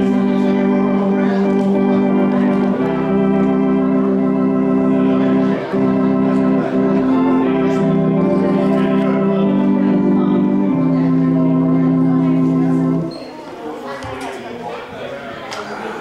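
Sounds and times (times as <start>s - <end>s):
church organ slow chords: 0.0s - 13.1s.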